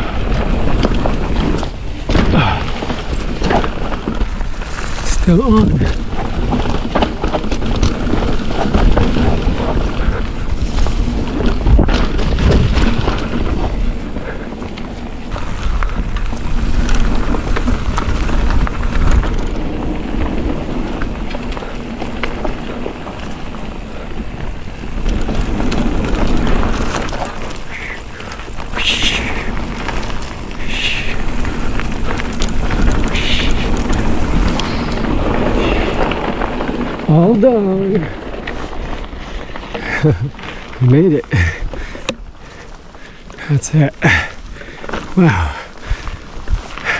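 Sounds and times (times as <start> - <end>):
bike rattling: 0.0 - 46.9
tyres rumbling on dirt: 0.0 - 46.9
wind buffeting microphone: 0.0 - 46.9.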